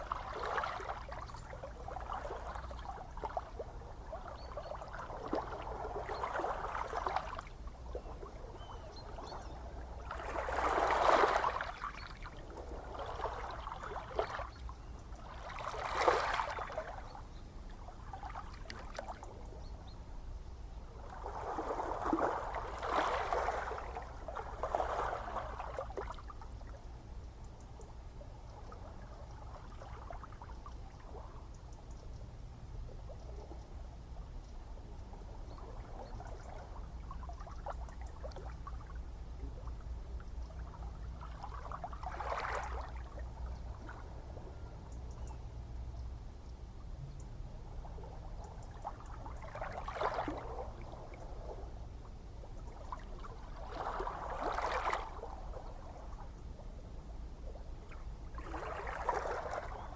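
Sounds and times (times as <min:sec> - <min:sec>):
low rumble of the sea: 0:00.0 - 0:59.9.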